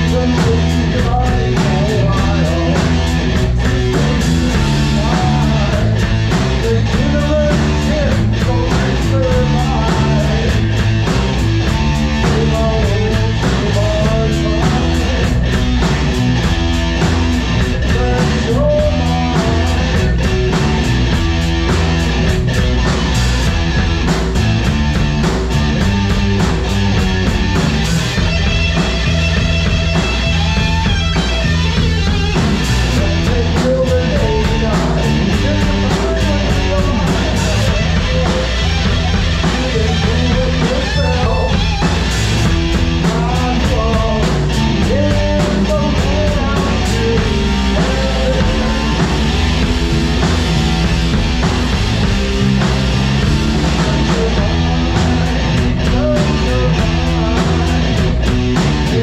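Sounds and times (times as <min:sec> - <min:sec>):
drum kit with cymbal hits: 0:00.0 - 0:59.0
electric guitar: 0:00.0 - 0:59.0.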